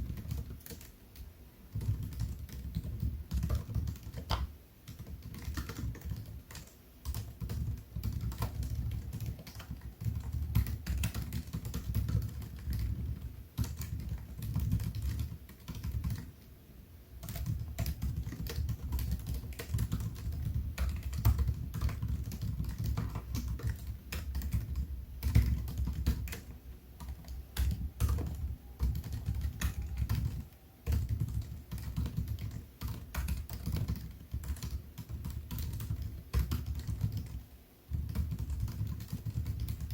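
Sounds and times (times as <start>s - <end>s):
laptop keyboard typing: 0.0s - 16.5s, 17.2s - 39.9s.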